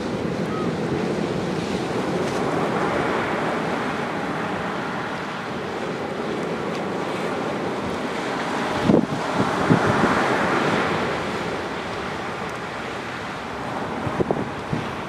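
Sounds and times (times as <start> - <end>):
waves breaking on a beach: 0.0 - 15.0
wind buffeting microphone: 0.0 - 15.0.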